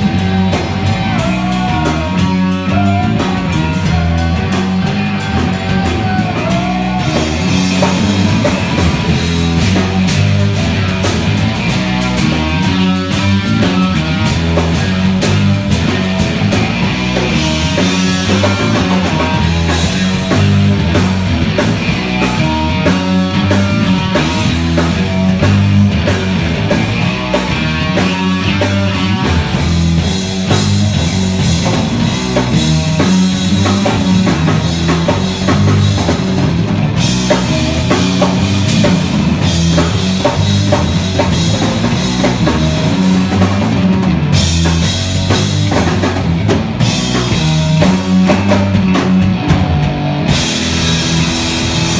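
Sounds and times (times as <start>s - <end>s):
driving bass line: 0.0s - 51.9s
drum kit: 0.0s - 51.9s
electric guitar: 0.0s - 51.9s.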